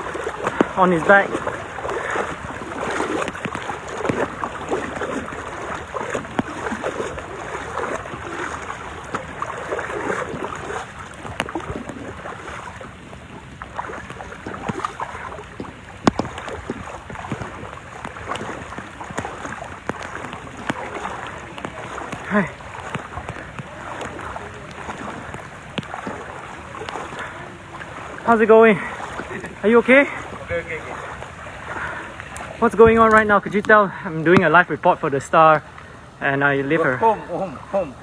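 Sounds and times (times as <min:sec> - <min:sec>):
water sloshing as people wade: 0:00.0 - 0:38.0.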